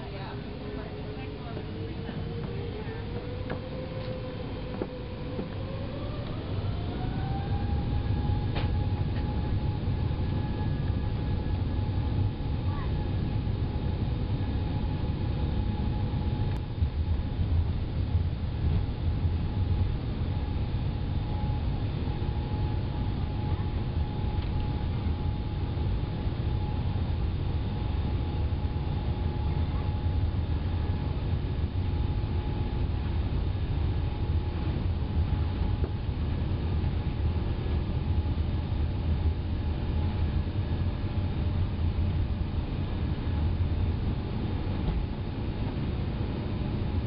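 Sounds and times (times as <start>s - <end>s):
aircraft cabin rumble: 0.0s - 47.0s
jet engine whine: 0.0s - 47.0s.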